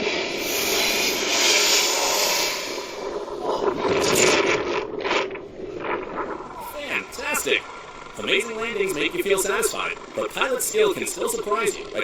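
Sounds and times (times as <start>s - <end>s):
jet airliner passing close: 0.0s - 12.0s.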